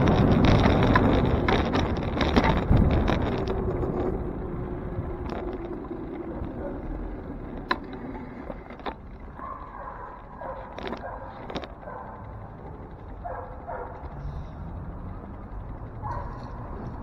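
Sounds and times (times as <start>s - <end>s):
traffic: 0.0s - 17.0s
wind and road noise: 0.0s - 17.0s.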